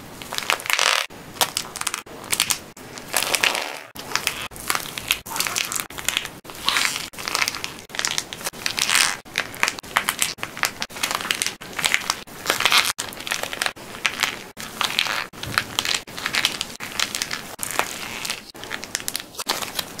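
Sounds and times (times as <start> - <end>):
plaster shell cracking and crunching: 0.2 - 20.0.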